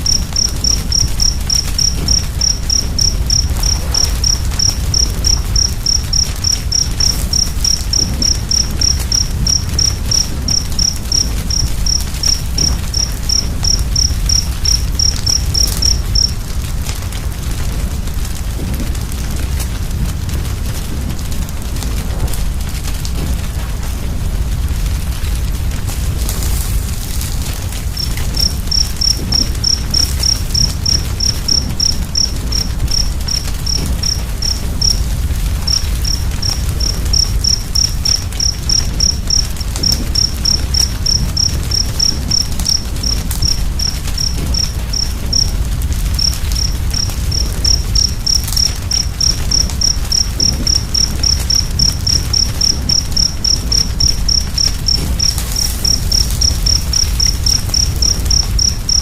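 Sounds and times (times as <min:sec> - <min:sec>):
cricket chirping: 0:00.0 - 0:16.9, 0:24.7 - 0:59.0
fire burning rumble: 0:00.0 - 0:59.0.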